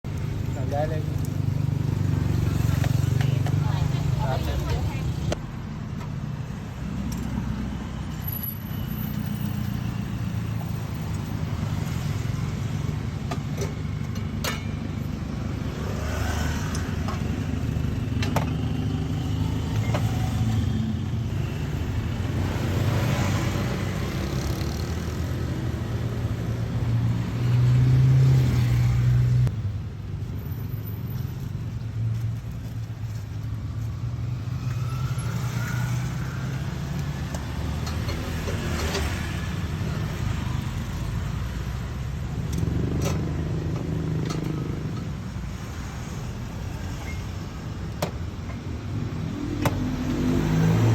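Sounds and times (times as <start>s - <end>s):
cars and motorbikes passing: 0.1s - 50.9s.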